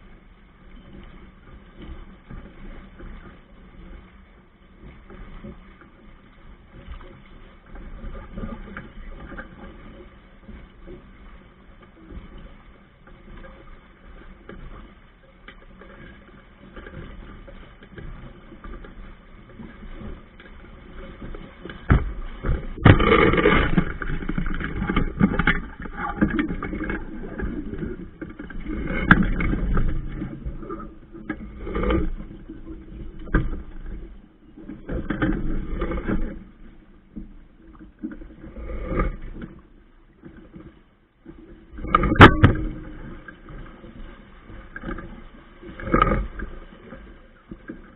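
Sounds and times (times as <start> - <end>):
water splashing against hull: 0.0 - 47.9.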